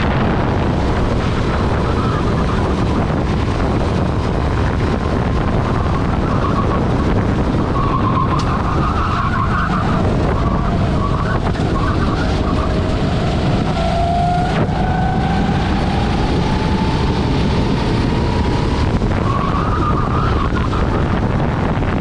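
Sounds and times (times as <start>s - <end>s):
kart engine racing: 0.0s - 22.0s
wind rush on microphone: 0.0s - 22.0s.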